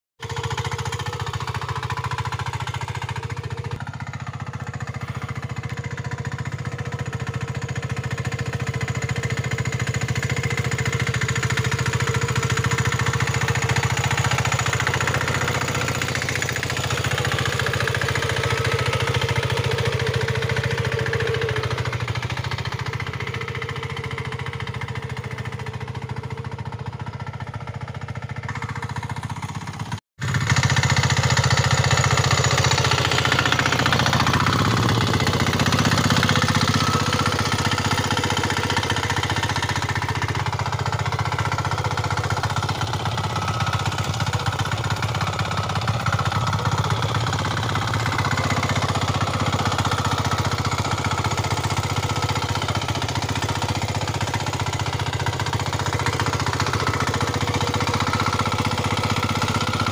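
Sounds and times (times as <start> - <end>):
diesel engine chugging: 0.2 - 59.9.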